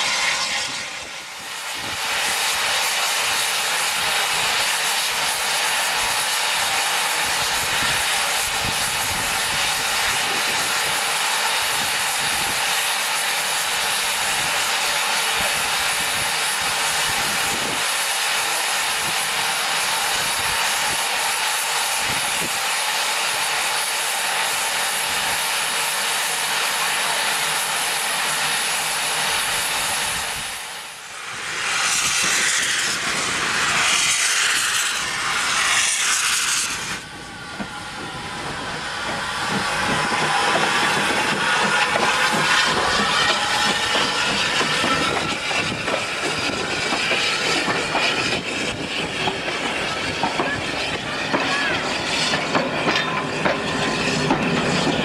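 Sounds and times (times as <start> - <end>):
steam hissing from locomotive: 0.0 - 55.0.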